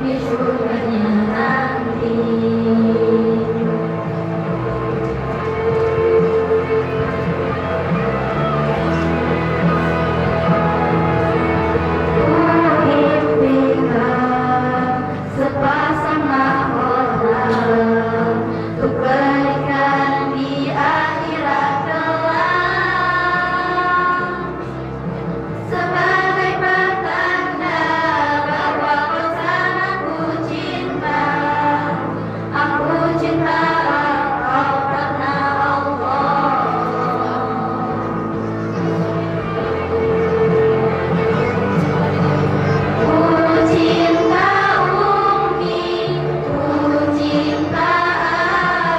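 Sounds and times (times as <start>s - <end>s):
choir singing: 0.0s - 24.9s, 25.5s - 48.9s.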